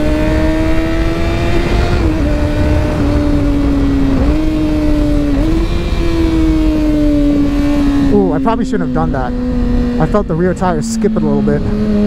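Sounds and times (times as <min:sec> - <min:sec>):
low wind rumble: 0:00.0 - 0:12.0
motorcycle engine running: 0:00.0 - 0:12.0.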